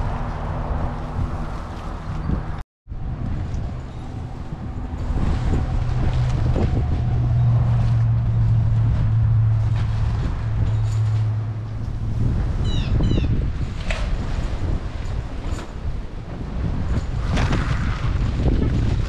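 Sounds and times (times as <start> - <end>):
low engine-like hum: 0.0 - 17.1
wind noise on microphone: 0.0 - 19.0.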